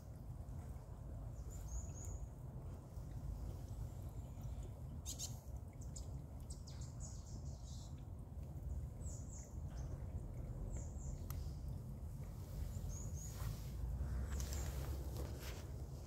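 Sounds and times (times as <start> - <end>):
stream water trickling and splashing: 0.0 - 16.0.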